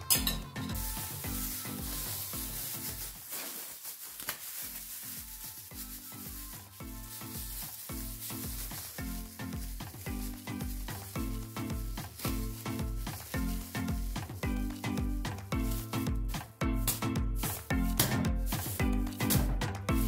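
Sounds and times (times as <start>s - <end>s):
background music with beat: 0.0s - 3.3s, 4.6s - 20.0s
plastic bag crinkling: 0.6s - 17.7s.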